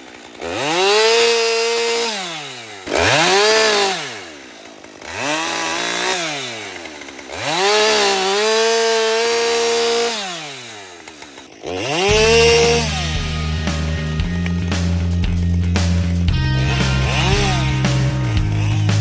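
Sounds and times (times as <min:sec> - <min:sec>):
chainsaw revving and idling: 0:00.0 - 0:19.0.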